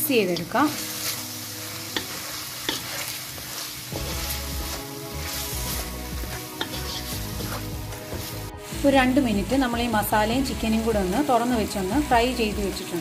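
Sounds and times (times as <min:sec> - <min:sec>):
background music: 0:00.0 - 0:13.0
chicken sizzling in hot oil: 0:00.0 - 0:13.0.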